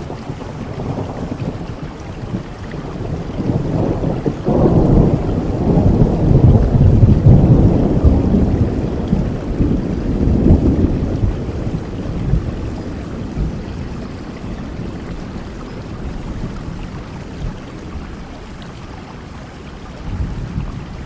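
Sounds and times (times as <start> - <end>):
thunder rumbling: 0.0 - 18.8, 19.8 - 21.0
rain falling: 0.0 - 21.0.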